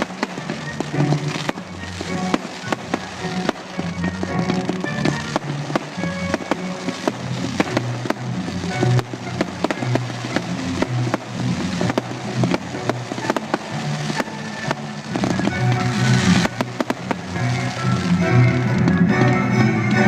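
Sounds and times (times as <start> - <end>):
fireworks bangs and crackle: 0.0 - 20.0
music playing: 0.0 - 20.0.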